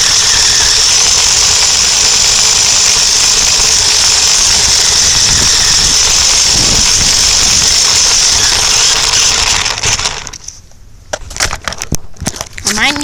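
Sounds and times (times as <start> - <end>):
toy truck motor whine: 0.0 - 10.5
chassis rattling: 0.0 - 10.6.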